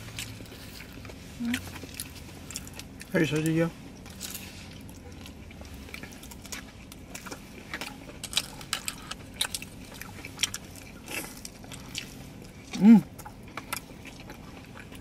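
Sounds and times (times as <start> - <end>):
faint steady hum: 0.0 - 15.0
people chewing food: 0.0 - 15.0.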